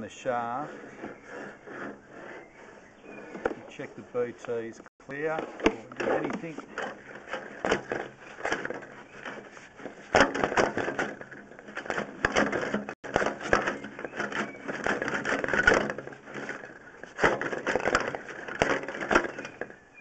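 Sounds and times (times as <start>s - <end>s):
push rod knocking and scraping in pipe: 0.4s - 19.8s.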